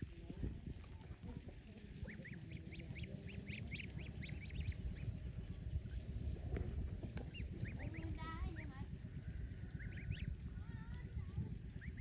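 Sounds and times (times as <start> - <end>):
goslings peeping: 0.0 - 6.1, 7.0 - 10.4, 11.8 - 12.0
low background rumble: 0.0 - 12.0.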